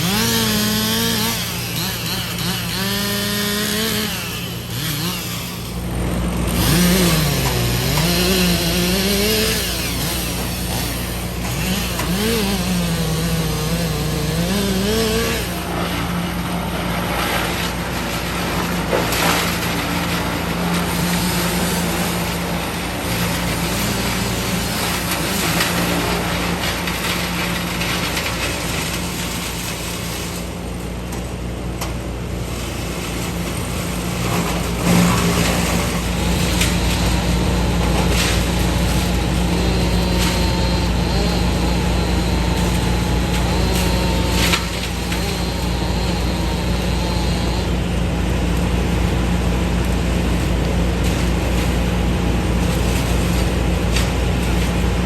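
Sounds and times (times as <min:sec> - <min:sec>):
machine engine revving: 0:00.0 - 0:30.5, 0:32.6 - 0:55.0
low engine drone: 0:00.0 - 0:55.0.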